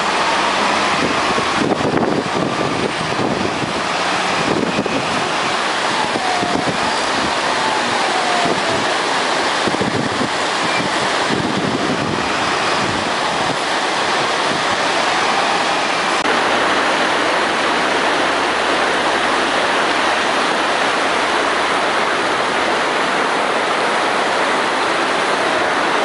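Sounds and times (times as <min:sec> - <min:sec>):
river rushing: 0:00.0 - 0:26.0
wheel loader engine: 0:00.0 - 0:26.0
wind buffeting microphone: 0:00.0 - 0:26.0.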